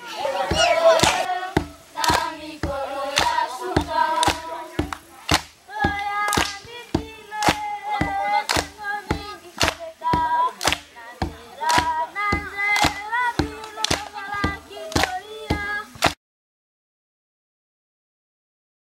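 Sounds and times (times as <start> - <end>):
children singing in chorus: 0.0 - 16.0
hand claps: 0.5 - 16.2.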